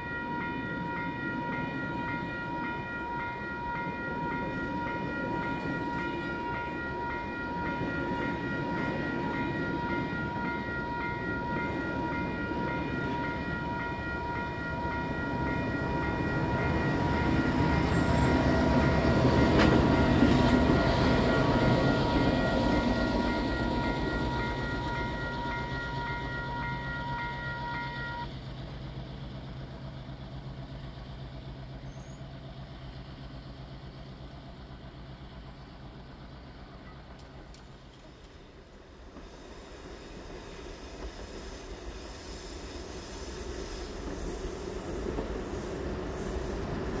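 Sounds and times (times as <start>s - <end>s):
diesel train passing: 0.0s - 47.0s.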